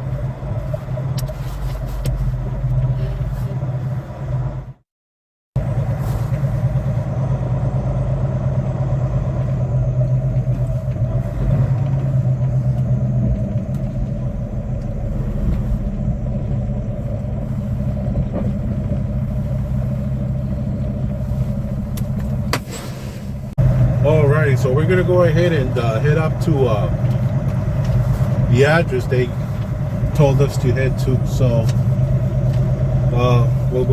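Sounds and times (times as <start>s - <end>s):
diesel truck engine running: 0.0s - 4.8s, 5.6s - 33.9s.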